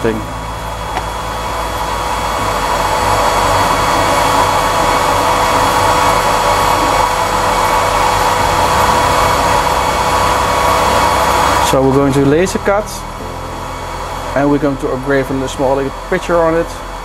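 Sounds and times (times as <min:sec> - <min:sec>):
air pump hum: 0:00.0 - 0:17.0
whooshing air suction blower: 0:00.0 - 0:17.0.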